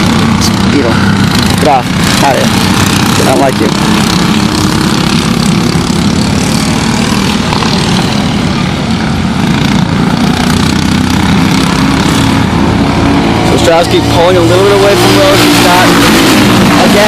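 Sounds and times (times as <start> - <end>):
go-kart engines racing: 0.0 - 17.0.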